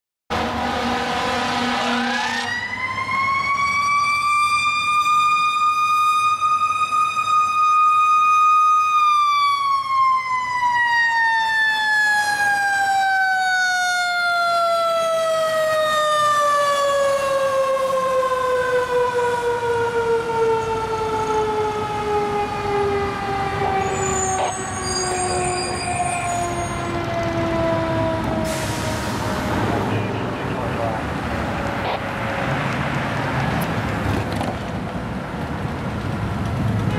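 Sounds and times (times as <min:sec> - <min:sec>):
fire engine siren wailing: 0:00.3 - 0:34.4.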